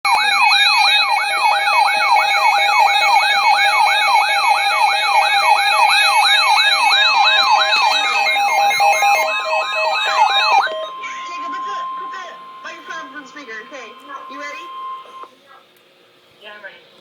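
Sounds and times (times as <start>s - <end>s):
electronic siren yelping: 0.1s - 15.3s
steady alarm tones: 0.1s - 15.3s.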